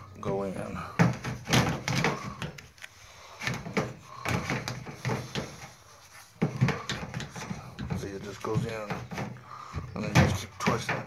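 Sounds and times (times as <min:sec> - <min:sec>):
plastic knocks and scrapes: 0:00.2 - 0:11.0.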